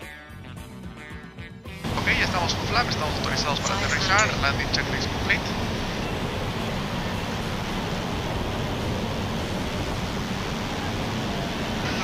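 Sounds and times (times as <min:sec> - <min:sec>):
airflow rushing over aircraft: 0:01.8 - 0:12.0
turboprop engine drone: 0:01.8 - 0:12.0.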